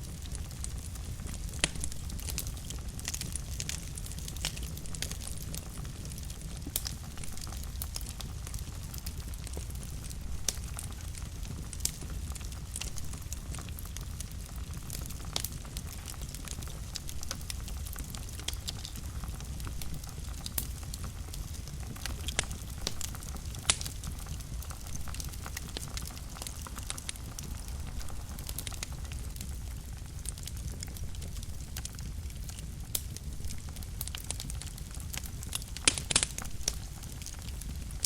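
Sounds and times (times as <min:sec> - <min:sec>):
fire crackles and pops: 0:00.0 - 0:38.0
low rumble of fire flames: 0:00.0 - 0:38.0.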